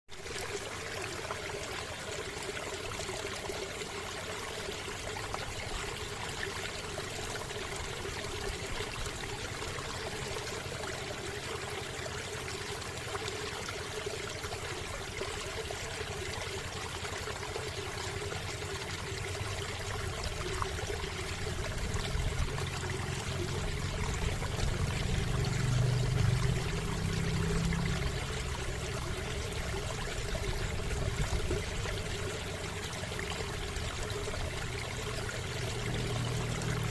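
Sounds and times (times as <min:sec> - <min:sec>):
river water flowing: 0:00.1 - 0:36.9.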